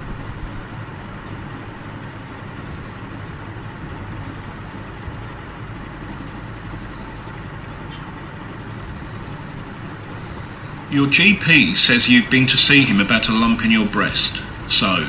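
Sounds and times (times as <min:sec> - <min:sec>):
constant hiss: 0:00.0 - 0:15.0
low hum: 0:00.0 - 0:15.0.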